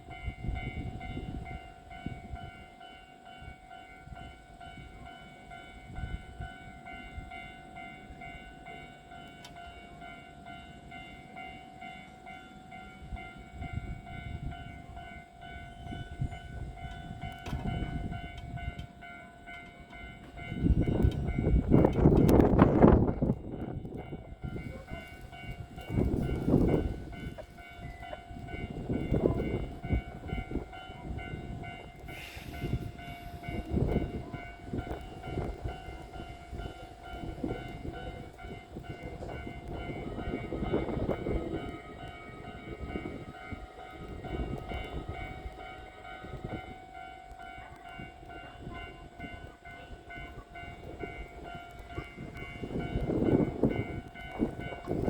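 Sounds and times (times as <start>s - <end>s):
electric train whine: 0.0s - 55.0s
wheels rumbling on track: 0.0s - 55.0s.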